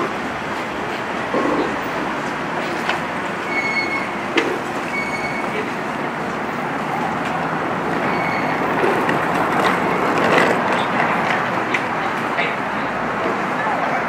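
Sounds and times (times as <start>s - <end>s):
urban street noise: 0.0s - 14.0s.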